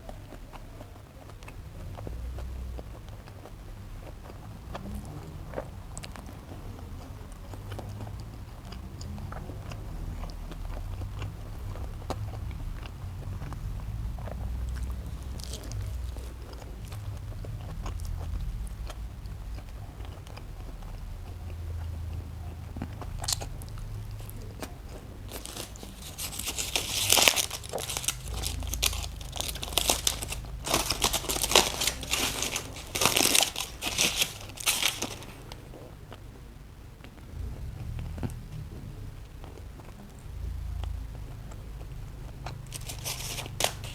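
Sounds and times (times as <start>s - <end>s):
crisp crackling: 0.0s - 36.3s, 39.3s - 43.9s
close chewing of food: 0.0s - 43.9s.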